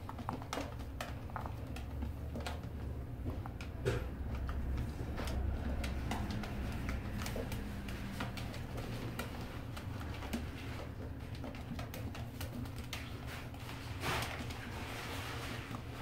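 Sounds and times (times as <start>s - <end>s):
claws scratching plastic tub: 0.0s - 16.0s.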